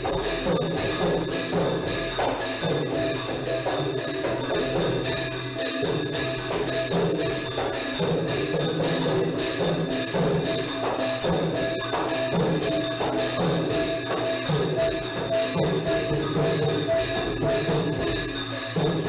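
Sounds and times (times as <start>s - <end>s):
quick percussion beat: 0.0s - 19.0s.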